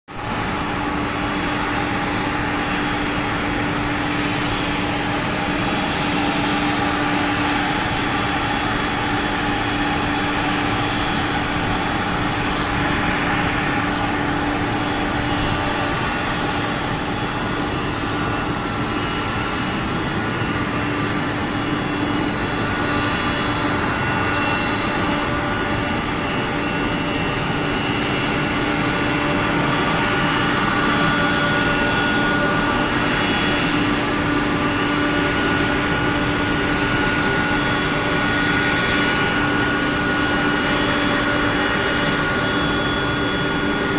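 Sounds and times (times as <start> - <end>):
jet airliner engines running: 0.1 - 43.9.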